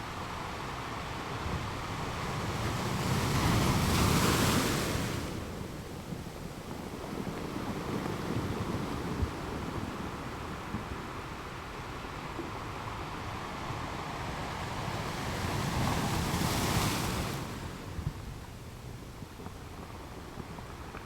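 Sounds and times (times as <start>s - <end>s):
open-sea wind: 0.0s - 21.0s
waves: 0.0s - 21.0s.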